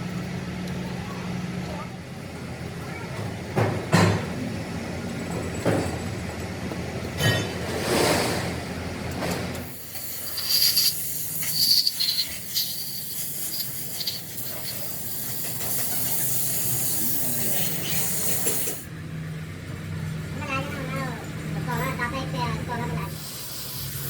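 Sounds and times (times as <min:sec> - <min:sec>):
workshop noise: 0:00.0 - 0:24.0.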